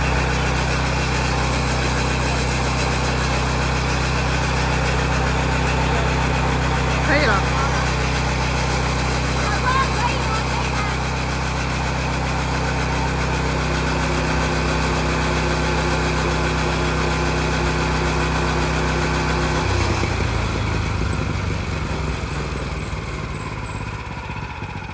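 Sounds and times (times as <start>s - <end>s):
small petrol engine running: 0.0s - 24.9s.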